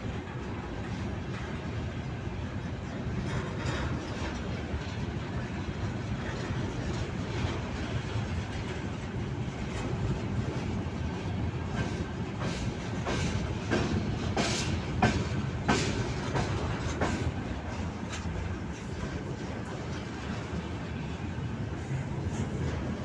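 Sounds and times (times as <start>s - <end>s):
wheels clacking over rail joints: 0.0s - 21.2s
train wheels rumbling on rail: 0.0s - 23.0s.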